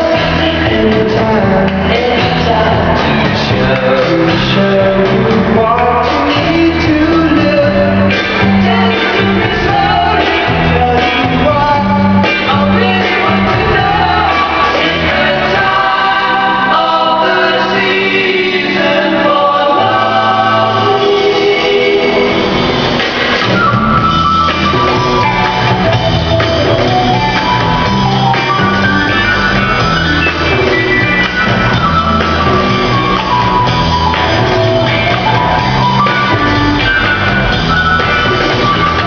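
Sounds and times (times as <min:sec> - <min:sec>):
loud music with singing: 0:00.0 - 0:39.0.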